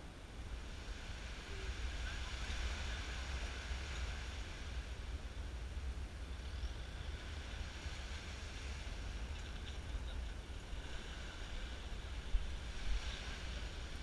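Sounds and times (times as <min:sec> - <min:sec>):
faint hiss: 0:00.0 - 0:14.0
wind buffeting microphone: 0:00.0 - 0:14.0.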